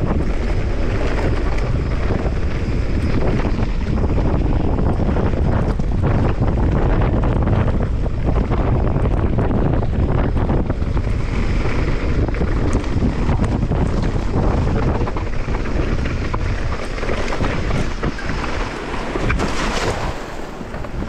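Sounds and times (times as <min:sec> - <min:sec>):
bike knocks and rattles: 0:00.0 - 0:21.0
wind rushing over microphone: 0:00.0 - 0:21.0.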